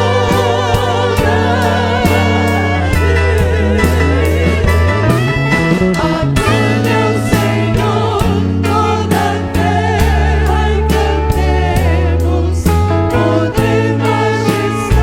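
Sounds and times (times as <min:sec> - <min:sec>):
steady drum beat: 0:00.0 - 0:15.0
sustained bass notes: 0:00.0 - 0:15.0
voices singing together: 0:00.0 - 0:15.0
worship song by band: 0:00.0 - 0:15.0.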